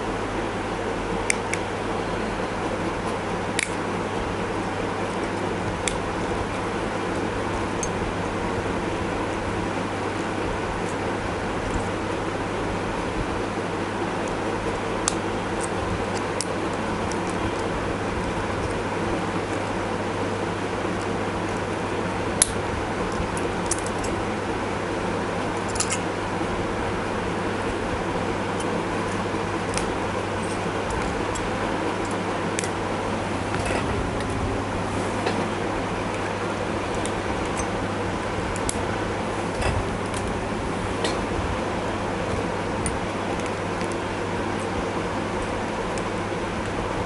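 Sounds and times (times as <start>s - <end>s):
steady fan-like hum: 0.0s - 47.0s.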